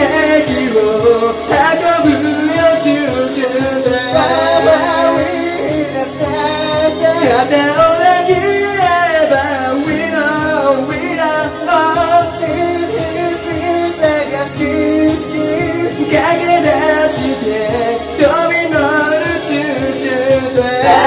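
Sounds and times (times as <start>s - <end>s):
group singing into microphones: 0.0s - 21.0s
pop backing track: 0.0s - 21.0s.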